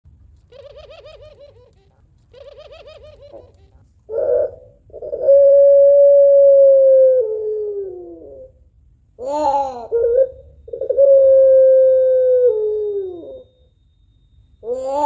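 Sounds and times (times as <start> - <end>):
dove cooing: 0.5 - 8.6, 9.2 - 13.5, 14.6 - 15.0.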